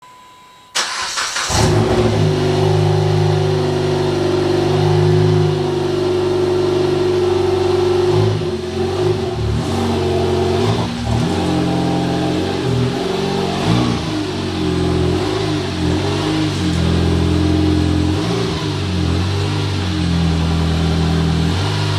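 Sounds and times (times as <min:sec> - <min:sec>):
car engine revving: 0:00.8 - 0:21.9.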